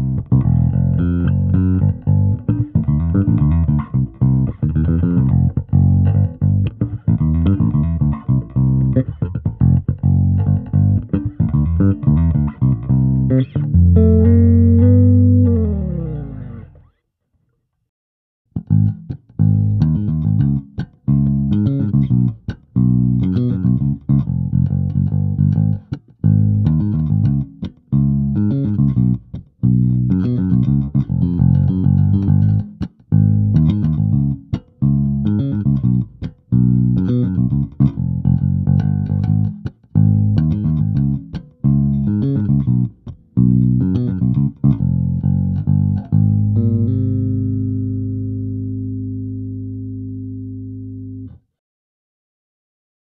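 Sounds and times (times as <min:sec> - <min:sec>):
electric bass riff: 0:00.0 - 0:17.0, 0:18.5 - 0:51.4.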